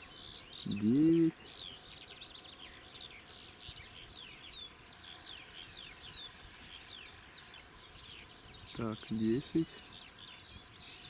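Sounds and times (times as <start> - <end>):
faint background hiss: 0.0 - 11.0
songbirds chirping and whistling: 0.0 - 11.0.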